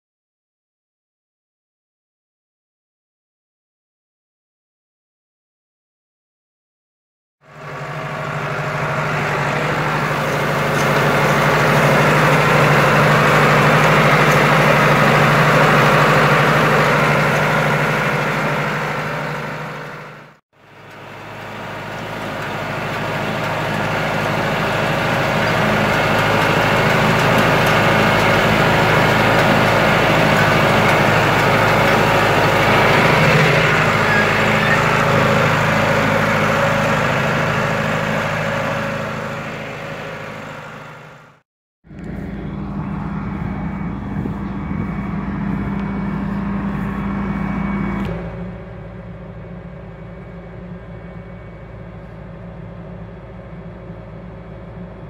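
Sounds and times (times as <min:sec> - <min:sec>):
tractor engine running: 0:07.4 - 0:55.0.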